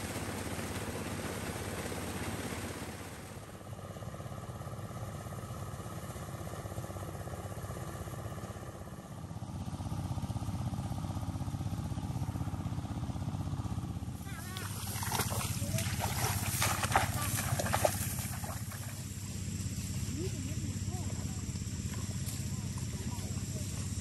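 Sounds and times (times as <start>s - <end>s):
thresher engine drone: 0.0s - 24.0s.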